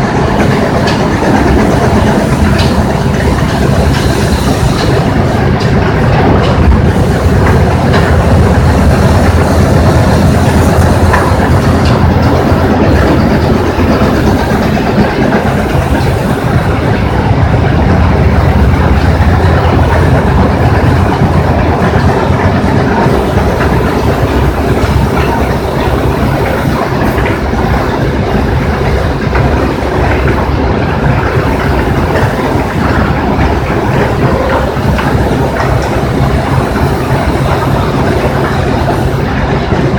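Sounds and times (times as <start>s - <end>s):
crusher rumbling and rattling: 0.0s - 39.9s.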